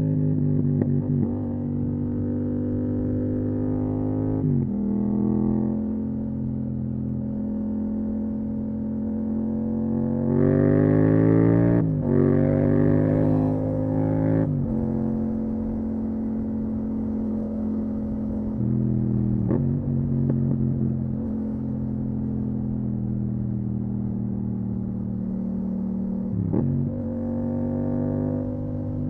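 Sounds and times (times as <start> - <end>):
motorcycle engine cruising: 0.0 - 29.0.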